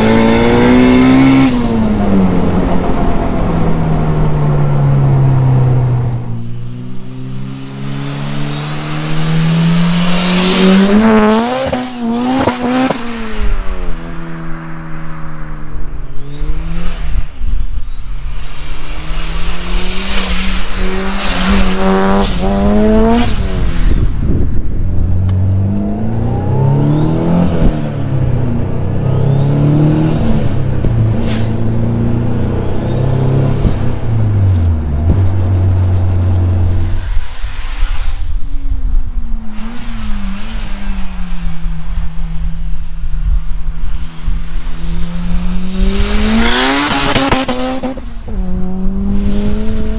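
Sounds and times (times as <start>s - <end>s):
car engine revving: 0.0s - 38.2s, 39.1s - 49.9s.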